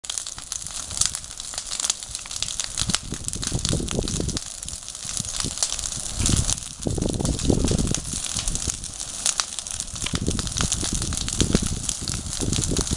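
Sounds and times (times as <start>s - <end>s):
campfire crackling: 0.0s - 12.9s
fire pops and snaps: 0.0s - 12.9s.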